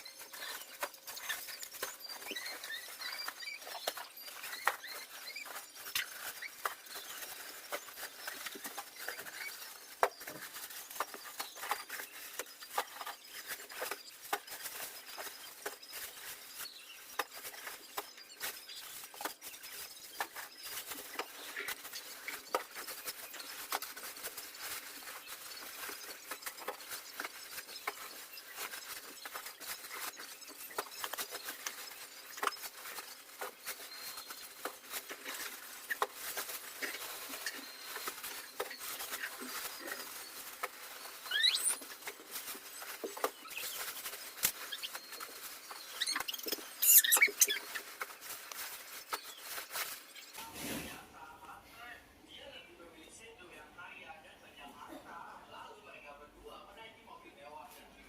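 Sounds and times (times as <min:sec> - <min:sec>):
packaging rustling and crinkling: 0:00.0 - 0:51.0.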